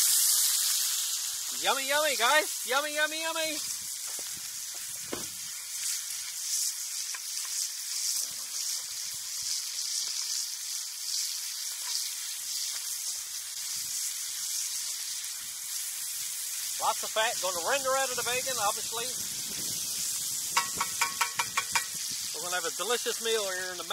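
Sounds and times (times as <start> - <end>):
bacon sizzling: 0.0 - 23.9.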